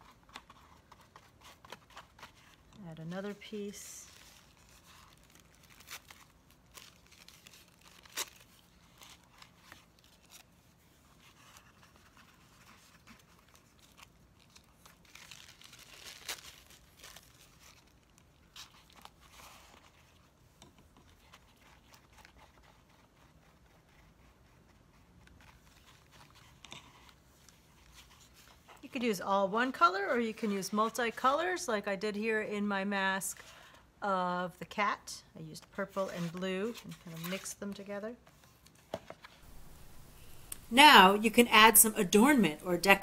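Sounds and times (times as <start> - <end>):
tissue paper rustling and crinkling: 0.0 - 31.6, 35.6 - 43.0.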